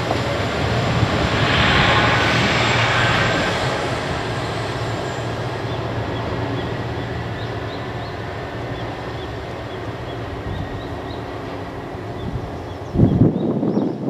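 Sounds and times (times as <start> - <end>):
diesel railcar engine drone: 0.0 - 14.0.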